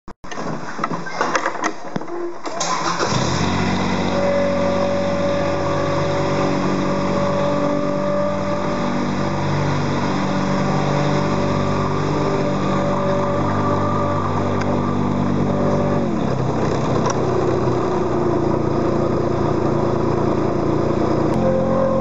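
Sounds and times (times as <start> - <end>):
small petrol engine running: 2.6 - 22.0.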